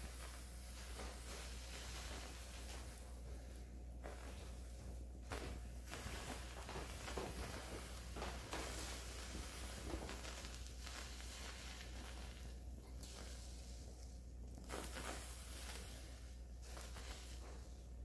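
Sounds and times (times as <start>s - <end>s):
flame hissing: 0.0s - 18.0s
matchsticks crackling as they burn: 0.0s - 18.0s.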